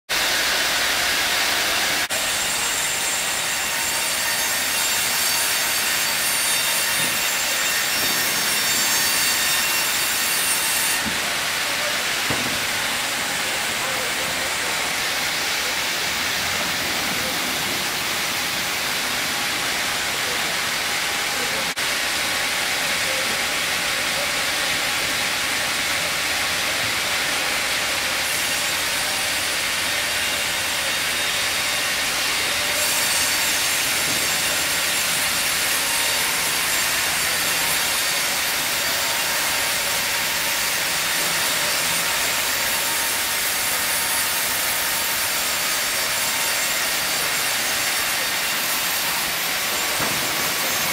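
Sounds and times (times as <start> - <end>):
sawmill machinery hiss: 0.1 - 50.9.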